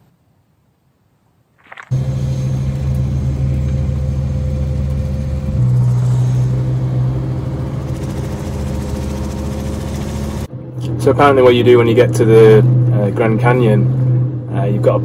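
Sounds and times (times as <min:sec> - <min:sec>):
car engine running at low revs: 0:01.9 - 0:15.0.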